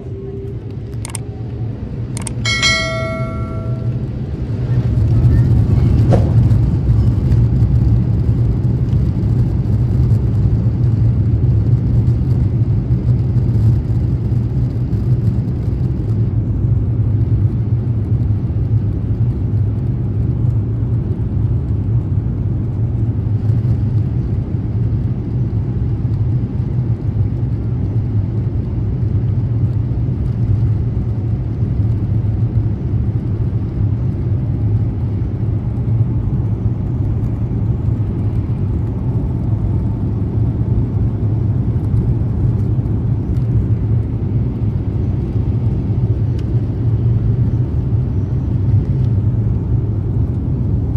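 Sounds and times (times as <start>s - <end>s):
jet cabin engine rumble: 0.0s - 50.9s.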